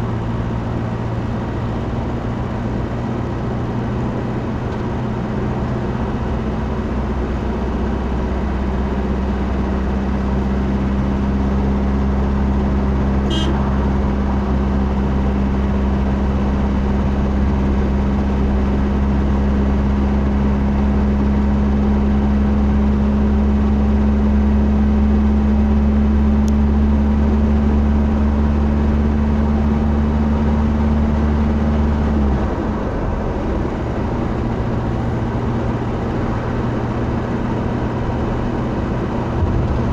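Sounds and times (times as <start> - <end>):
car engine drone: 0.0 - 39.9
road noise: 0.0 - 39.9.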